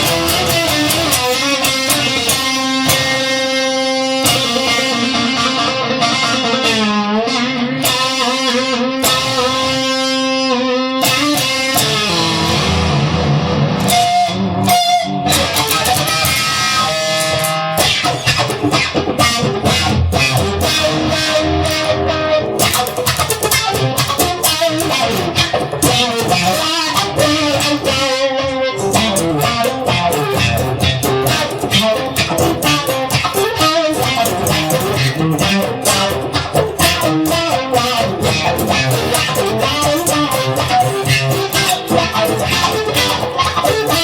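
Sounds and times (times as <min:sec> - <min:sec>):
electric guitars playing rock: 0:00.0 - 0:44.0.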